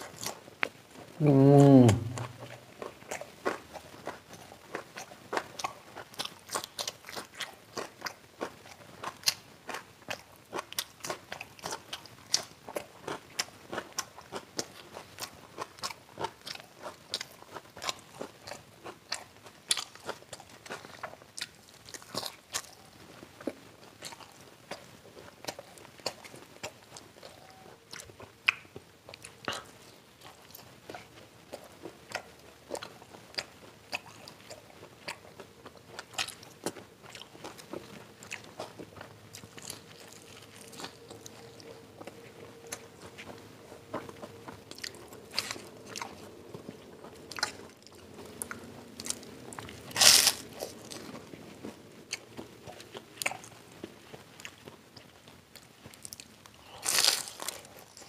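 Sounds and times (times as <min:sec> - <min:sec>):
crunching and chewing fried food: 0:00.0 - 0:58.0.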